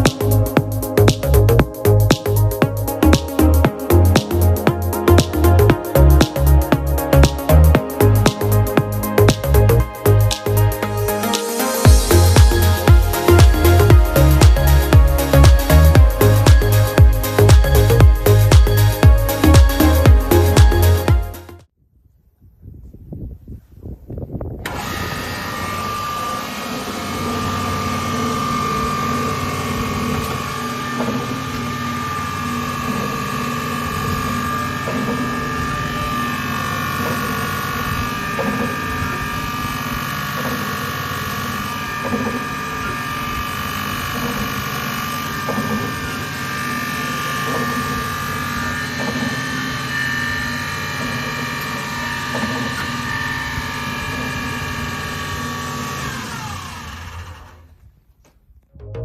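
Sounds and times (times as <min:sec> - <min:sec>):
circular saw whining: 0:00.0 - 0:21.7, 0:24.6 - 0:58.0.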